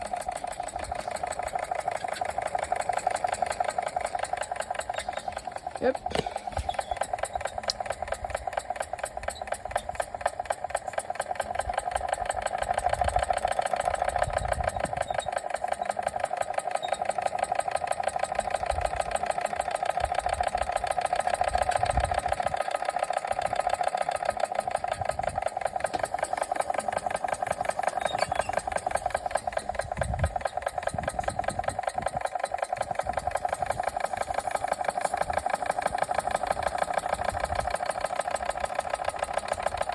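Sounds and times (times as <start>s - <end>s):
model steam engine running fast: 0.0s - 39.9s.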